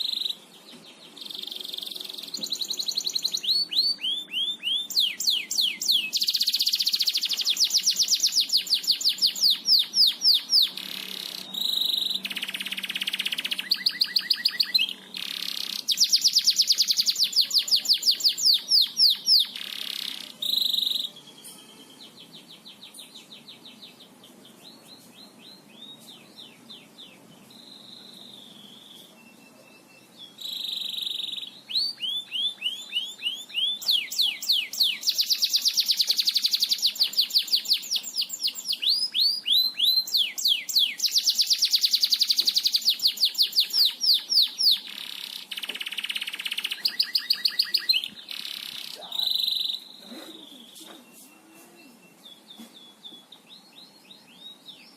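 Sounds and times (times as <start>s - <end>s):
canary singing rapid trills: 0.0s - 0.4s, 1.1s - 24.5s, 25.5s - 53.7s.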